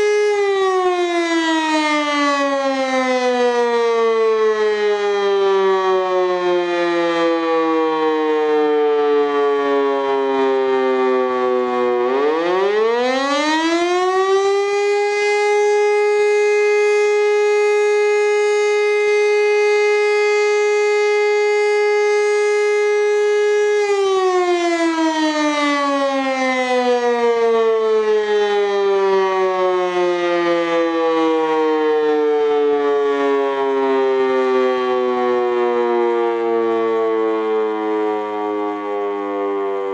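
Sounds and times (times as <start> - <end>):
civil defence siren wailing: 0.0 - 39.9.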